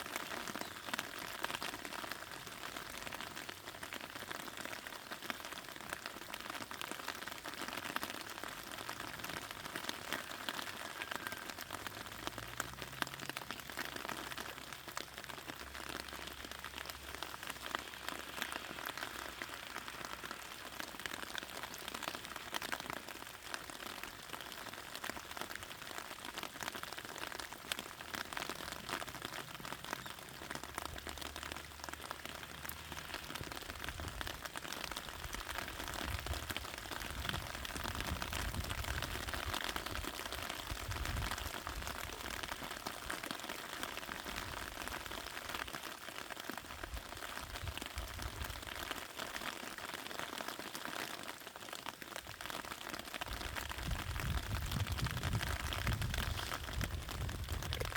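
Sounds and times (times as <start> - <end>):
rain pattering on leaves: 0.0 - 57.9.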